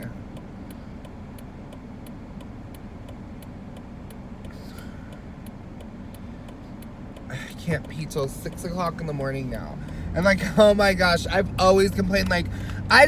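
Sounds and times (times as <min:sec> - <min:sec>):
car engine idling: 0:00.0 - 0:13.0
car indicator ticking: 0:00.0 - 0:13.0.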